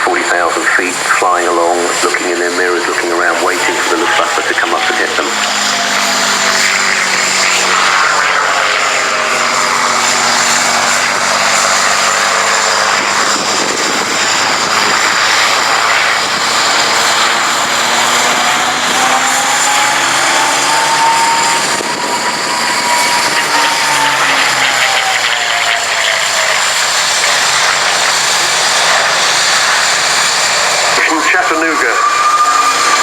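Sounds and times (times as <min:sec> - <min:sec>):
propeller plane engine passing: 0:00.0 - 0:33.0.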